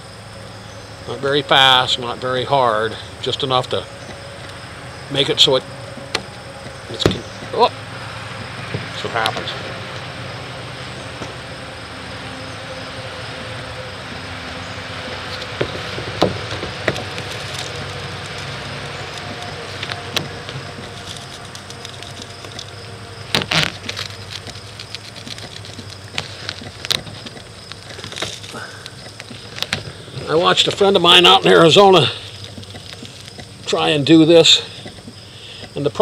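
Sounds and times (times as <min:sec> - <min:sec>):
rubber seal peeling with crackles: 0:03.0 - 0:36.0.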